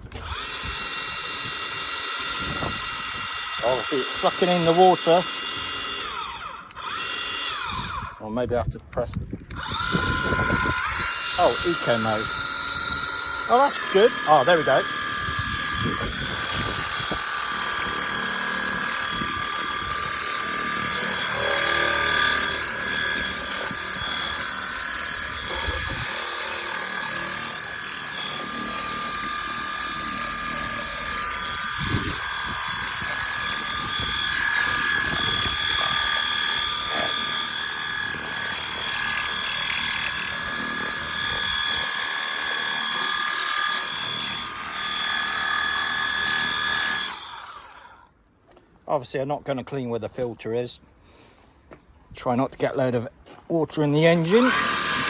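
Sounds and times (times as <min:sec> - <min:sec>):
electric pump whining: 0:00.0 - 0:08.4, 0:09.4 - 0:48.2, 0:53.8 - 0:55.0.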